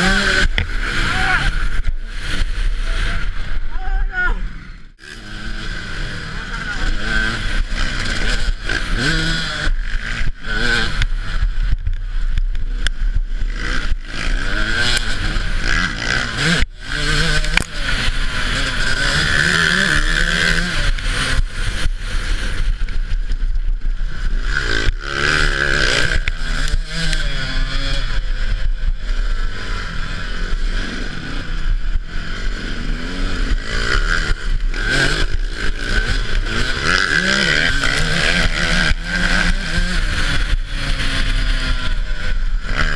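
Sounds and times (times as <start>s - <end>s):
motocross motorcycle engine revving: 0.0s - 42.9s.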